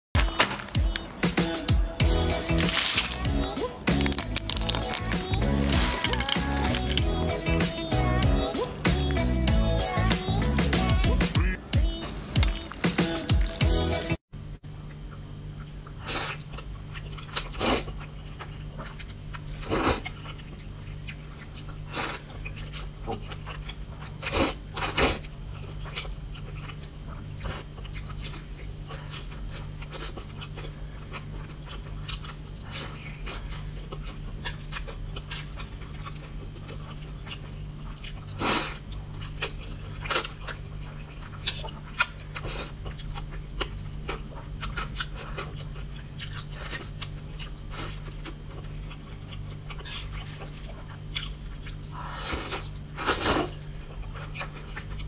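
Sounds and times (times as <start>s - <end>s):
steady low hum: 0.2s - 55.0s
person slurping and chewing noodles: 1.5s - 14.2s, 15.1s - 55.0s.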